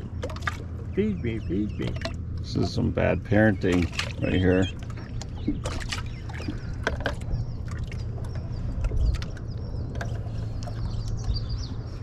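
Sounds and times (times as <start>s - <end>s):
steady low hum: 0.0s - 12.0s
ducklings peeping: 0.8s - 12.0s.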